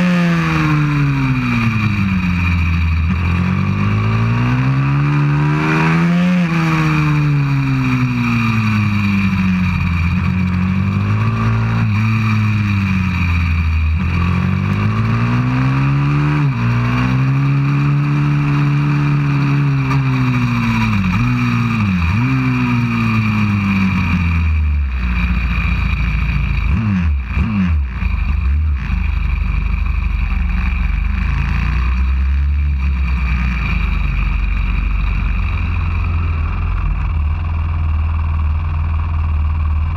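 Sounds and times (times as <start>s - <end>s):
pit bike engine revving: 0.0s - 37.5s.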